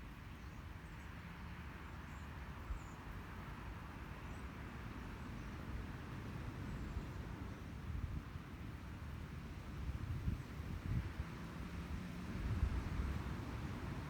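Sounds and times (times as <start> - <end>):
outdoor background rush: 0.0 - 14.0.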